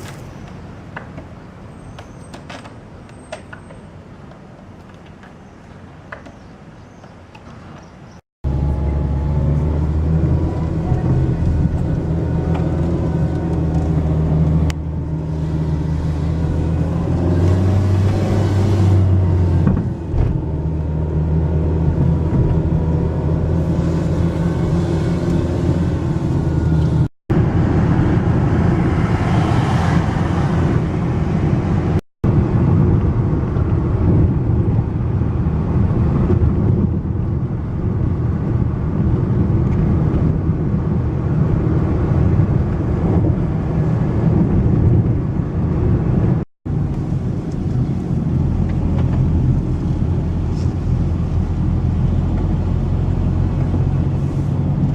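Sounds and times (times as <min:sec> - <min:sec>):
road noise: 0:00.0 - 0:54.9
car engine hum: 0:08.4 - 0:54.9.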